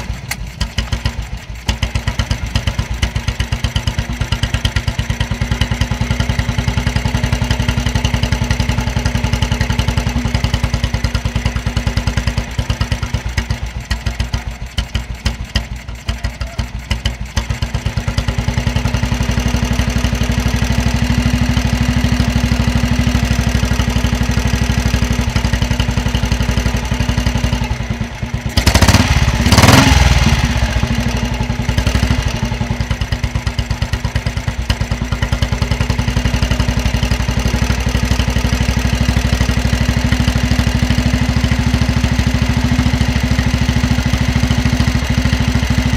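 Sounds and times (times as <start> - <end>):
motorcycle engine idling: 0.0 - 45.9
motorcycle engine revving: 0.0 - 45.9.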